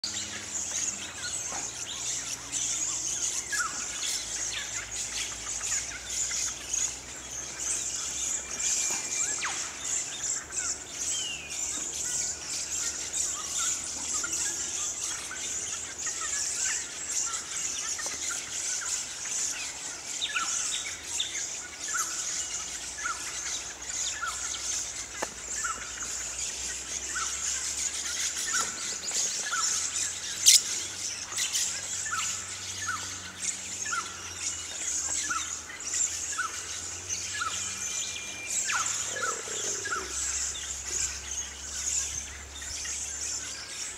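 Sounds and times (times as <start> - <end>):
lorikeets screeching: 0.0 - 43.9.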